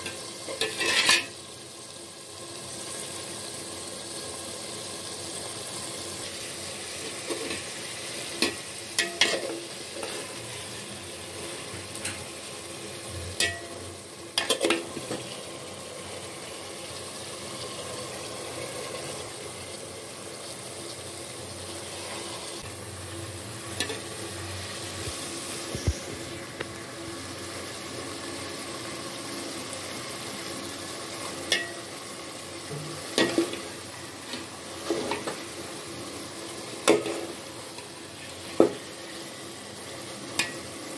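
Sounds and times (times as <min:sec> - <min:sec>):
beef sizzling in oil: 0:00.0 - 0:40.9.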